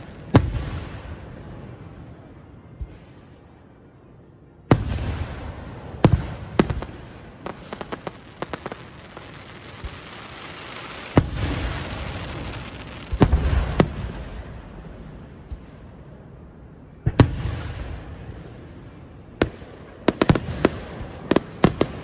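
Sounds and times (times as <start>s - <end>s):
crackling hiss of burning stars: 0.0s - 22.0s.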